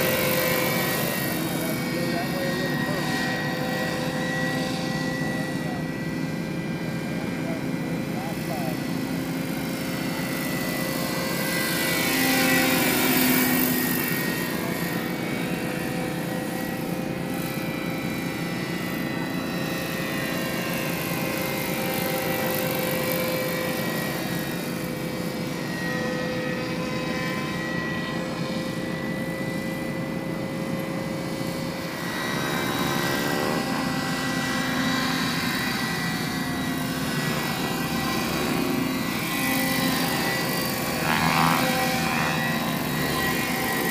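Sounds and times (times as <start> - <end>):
model helicopter motor and rotors whine: 0.0 - 43.9.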